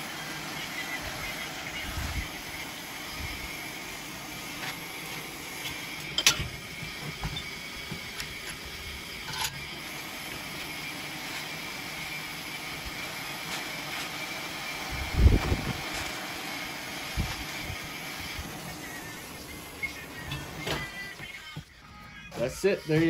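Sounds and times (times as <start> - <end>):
gas torch hissing: 0.0 - 21.6.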